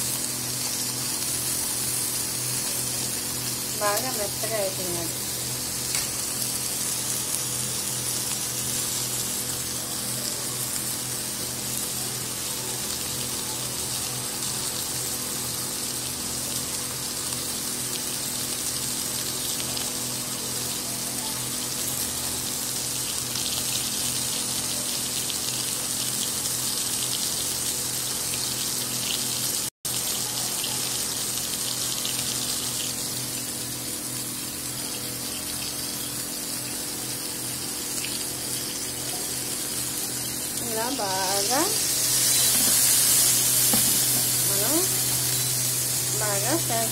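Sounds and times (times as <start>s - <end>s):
fish sizzling in oil: 0.0s - 46.9s.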